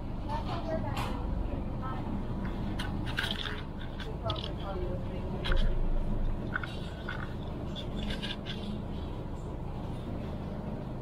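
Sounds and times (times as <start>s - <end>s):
ferry engine humming: 0.0s - 11.0s.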